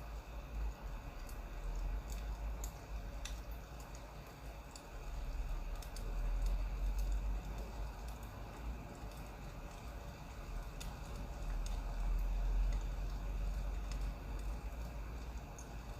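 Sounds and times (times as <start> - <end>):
firewood crackling: 0.0 - 15.9.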